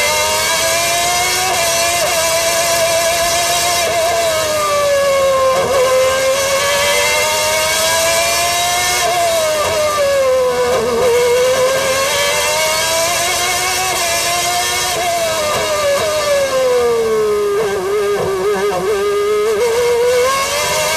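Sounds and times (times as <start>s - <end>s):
racing car engine: 0.0s - 20.9s.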